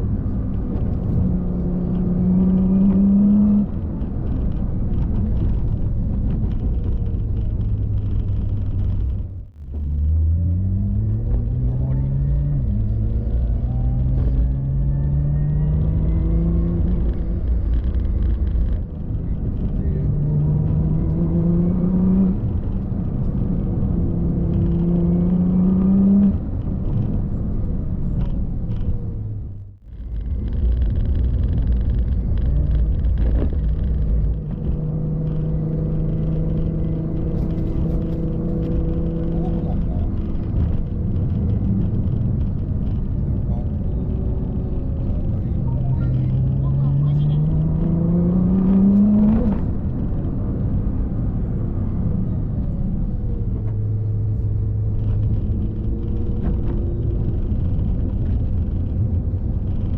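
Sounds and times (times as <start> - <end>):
car engine accelerating and cruising: 0.0 - 59.9.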